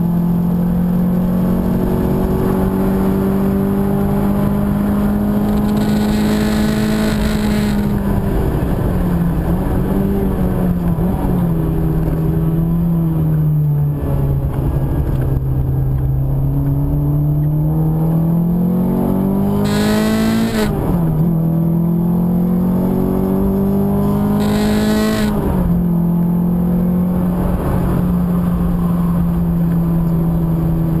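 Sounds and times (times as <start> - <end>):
car engine accelerating through gears: 0.0 - 31.0.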